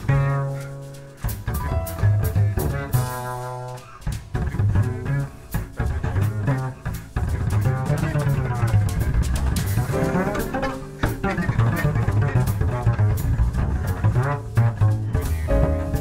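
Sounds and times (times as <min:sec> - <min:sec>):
instrumental music with drum beat: 0:00.0 - 0:16.0.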